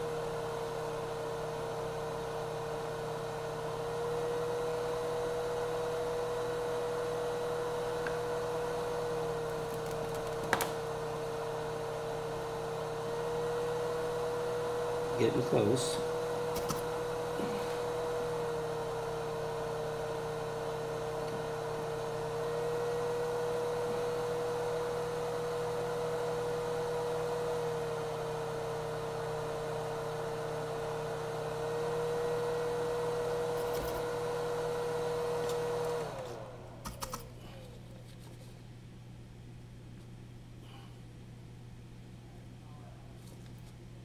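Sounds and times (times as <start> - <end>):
hot air gun blower whirring: 0.0 - 37.7.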